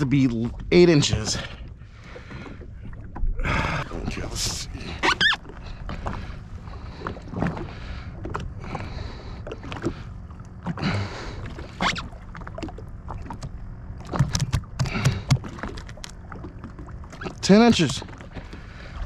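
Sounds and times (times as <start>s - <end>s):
water sloshing against hull: 0.0s - 19.0s.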